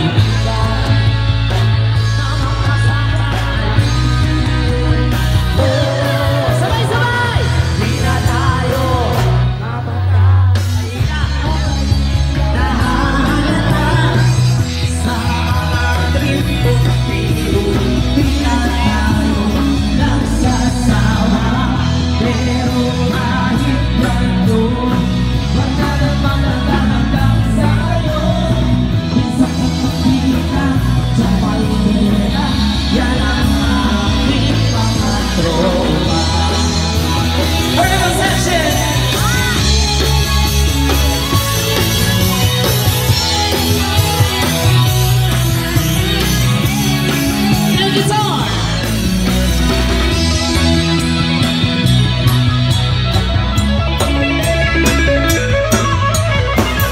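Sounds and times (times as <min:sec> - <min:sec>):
person singing: 0:00.0 - 0:52.4
live band playing: 0:00.0 - 0:56.9.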